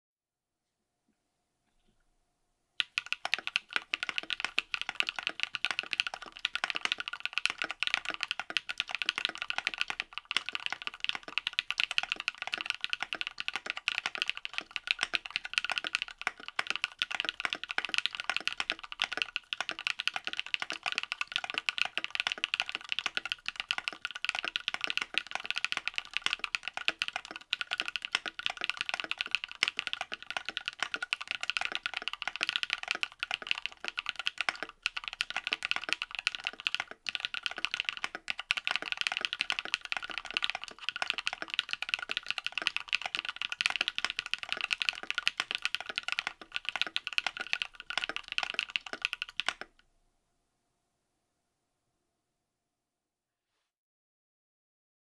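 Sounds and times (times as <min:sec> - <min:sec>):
mechanical keyboard typing: 0:02.8 - 0:49.8.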